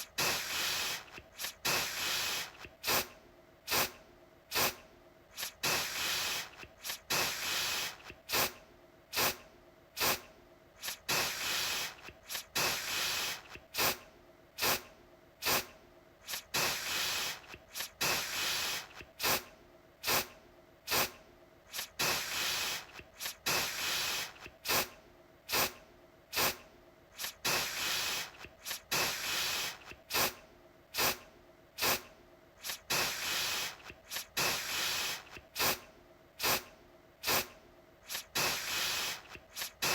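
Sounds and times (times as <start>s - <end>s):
aerosol can spraying: 0.0s - 3.1s, 3.7s - 9.4s, 10.0s - 10.2s, 10.8s - 14.0s, 14.6s - 19.4s, 20.0s - 20.3s, 20.9s - 26.6s, 27.2s - 30.4s, 31.0s - 31.2s, 31.8s - 35.8s, 36.4s - 39.9s.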